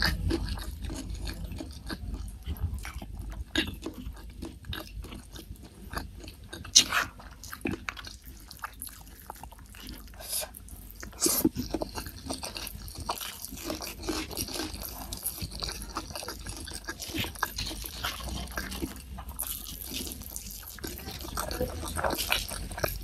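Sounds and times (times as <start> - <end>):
wet chewing and lip-smacking: 0.0 - 23.0.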